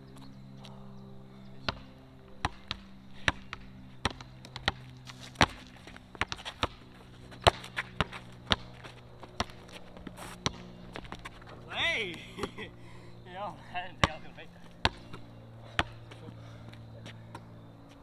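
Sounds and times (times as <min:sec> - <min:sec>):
steady low hum: 0:00.0 - 0:18.0
basketball bouncing: 0:01.6 - 0:12.8, 0:13.9 - 0:18.0.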